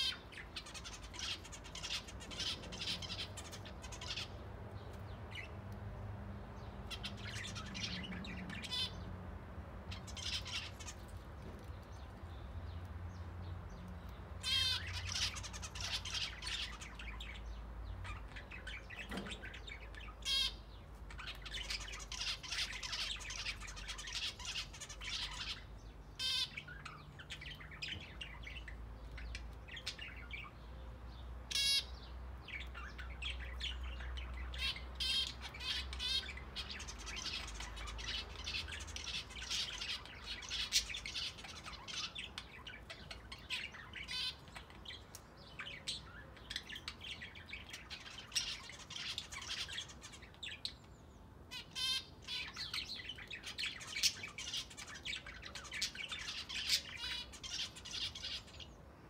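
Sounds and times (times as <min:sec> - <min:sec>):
birds chirping and chattering: 0:00.0 - 0:59.0.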